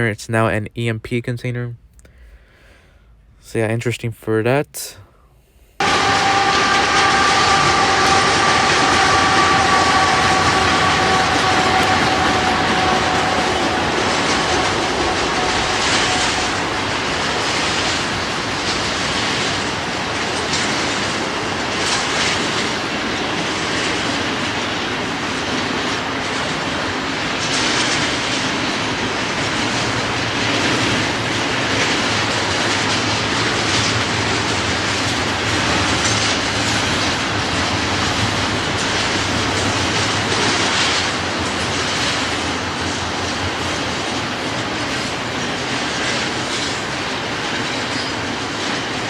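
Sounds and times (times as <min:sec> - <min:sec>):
freight train rumbling past: 0:05.8 - 0:49.0.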